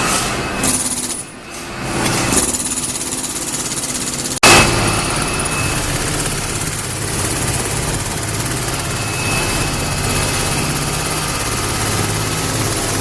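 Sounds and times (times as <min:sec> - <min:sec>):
engine-like machine drone: 0:00.0 - 0:13.0.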